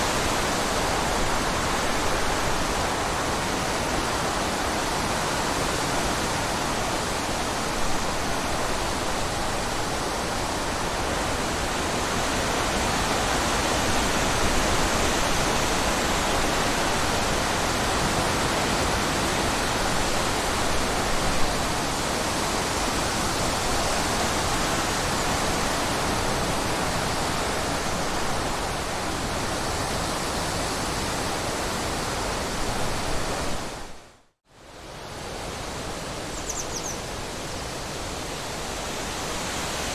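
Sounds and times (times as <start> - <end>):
running water rushing: 0.0 - 34.0, 34.8 - 39.9.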